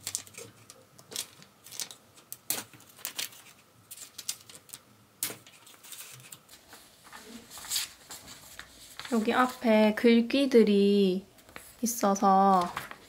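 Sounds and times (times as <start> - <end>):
paper rustling: 0.0 - 9.9, 11.4 - 13.0.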